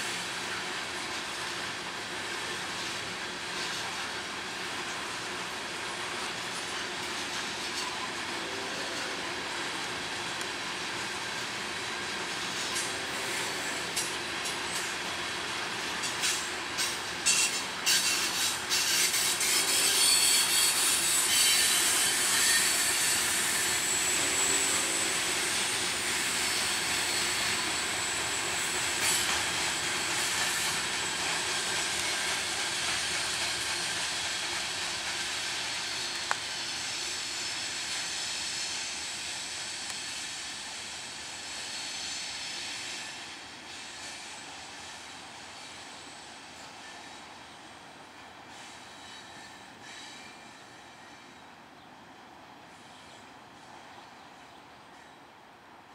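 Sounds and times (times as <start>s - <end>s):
high wheel squeal and hiss: 0.0s - 51.7s, 52.6s - 55.1s
freight train rolling past: 0.0s - 55.9s.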